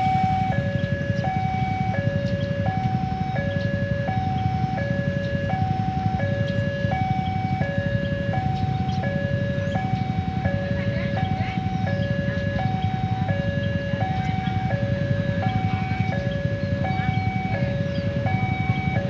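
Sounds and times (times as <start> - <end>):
constant low rumble: 0.0 - 19.0
level crossing alarm: 0.0 - 19.0.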